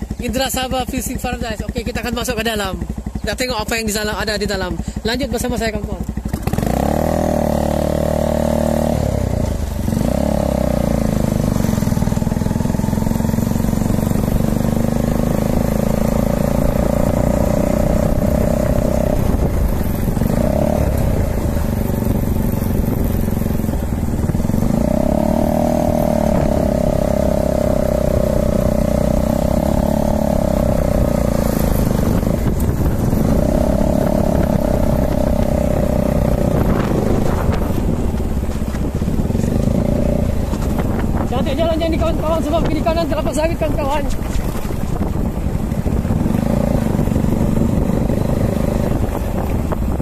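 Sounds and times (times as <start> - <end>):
motorcycle engine rumble: 0.0 - 50.0.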